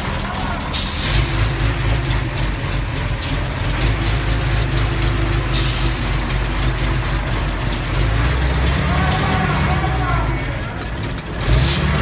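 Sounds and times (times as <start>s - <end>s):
heavy vehicle engine droning: 0.0s - 12.0s.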